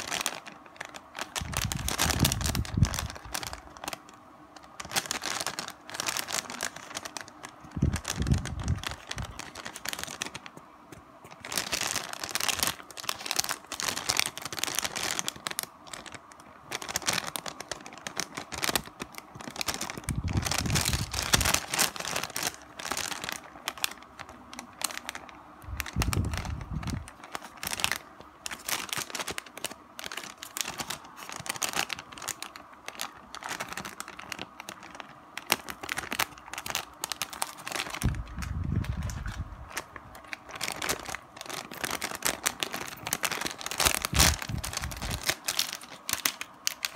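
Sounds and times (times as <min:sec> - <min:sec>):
plastic wrapper crinkling: 0:00.0 - 0:46.9.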